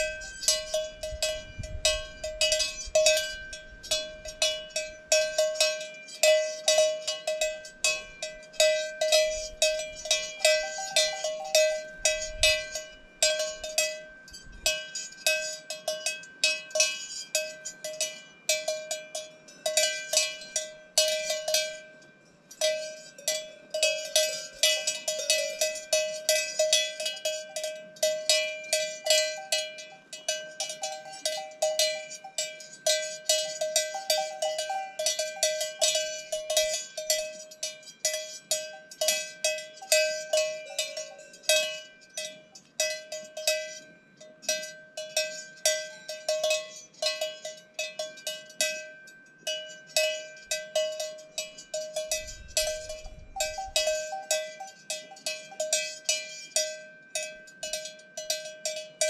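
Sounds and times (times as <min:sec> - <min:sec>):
cowbells clanking: 0:00.0 - 0:59.0.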